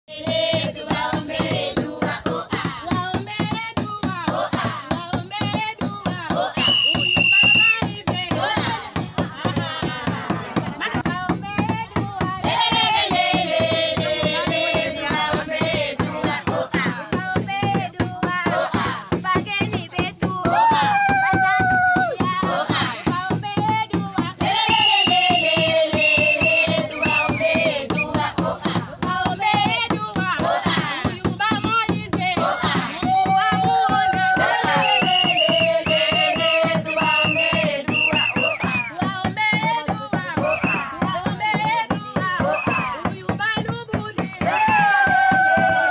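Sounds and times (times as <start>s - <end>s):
rhythmic clapping: 0.1s - 45.9s
women singing: 0.1s - 45.9s.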